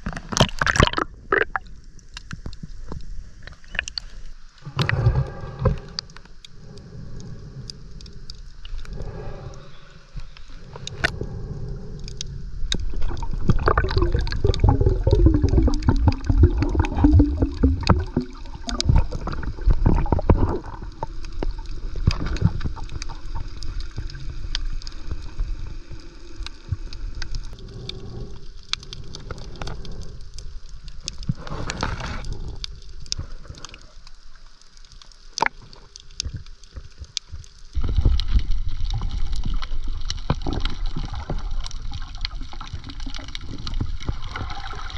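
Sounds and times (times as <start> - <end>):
water sloshing and gurgling: 0.0 - 44.9.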